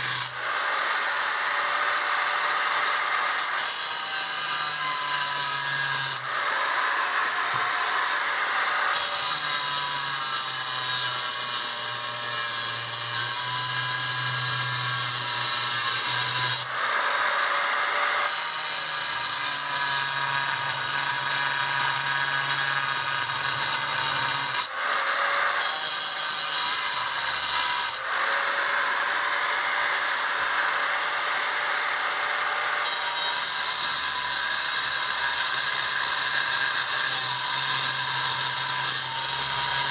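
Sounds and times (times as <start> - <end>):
angle grinder grinding stone: 0.0 - 39.9.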